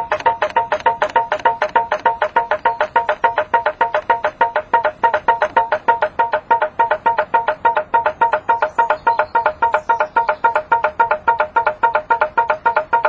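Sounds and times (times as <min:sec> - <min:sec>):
pop-pop engine popping: 0:00.0 - 0:13.0.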